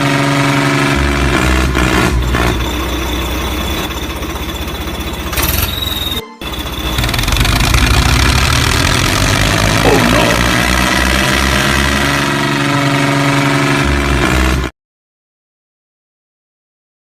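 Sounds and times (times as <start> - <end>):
tractor engine throbbing: 0.0 - 14.7.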